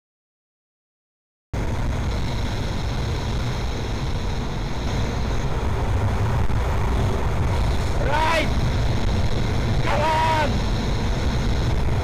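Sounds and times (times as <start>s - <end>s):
wind rushing over microphone: 1.6s - 12.0s.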